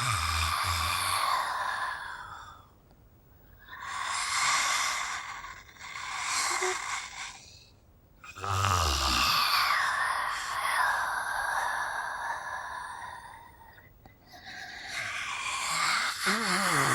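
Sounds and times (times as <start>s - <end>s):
raspy hissing breaths: 0.0s - 2.8s, 3.6s - 16.9s.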